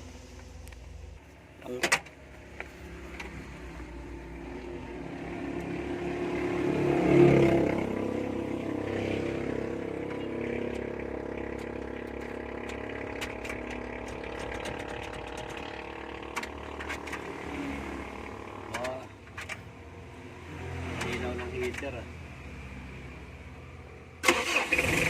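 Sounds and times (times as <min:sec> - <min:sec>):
engine revving and idling: 0:02.3 - 0:25.0.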